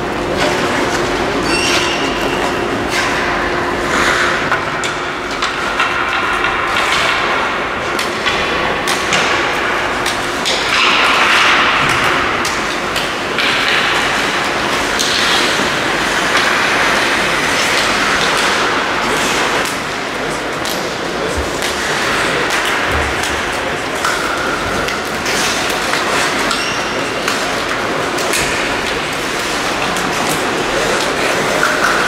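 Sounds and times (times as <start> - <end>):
hockey sticks and puck knocking: 2.9 - 19.9, 20.6 - 32.0.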